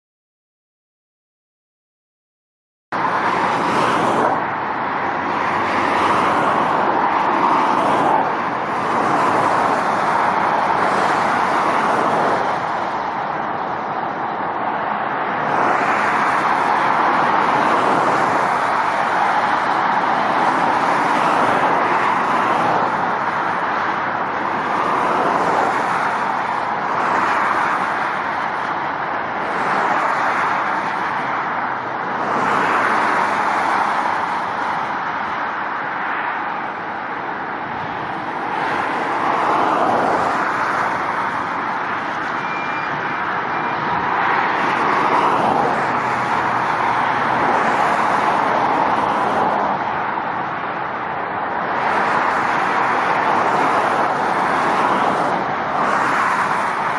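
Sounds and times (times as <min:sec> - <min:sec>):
motorway traffic roar: 0:02.9 - 0:56.9.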